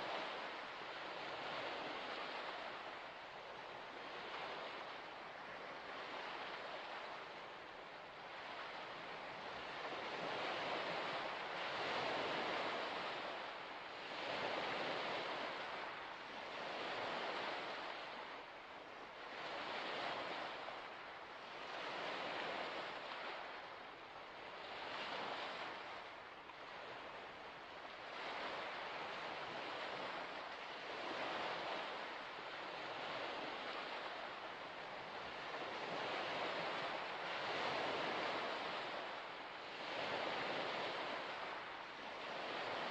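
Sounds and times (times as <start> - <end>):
small waves washing ashore: 0.0 - 42.9.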